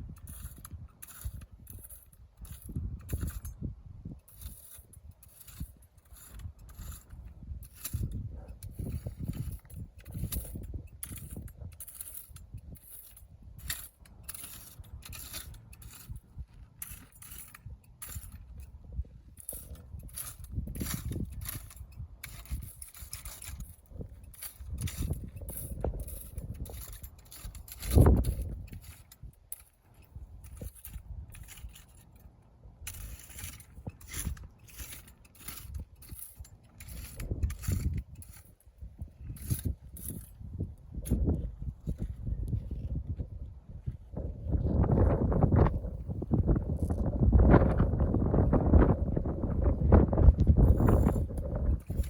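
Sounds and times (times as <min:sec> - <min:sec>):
dry weeds and soil scraping: 0:00.0 - 0:52.0.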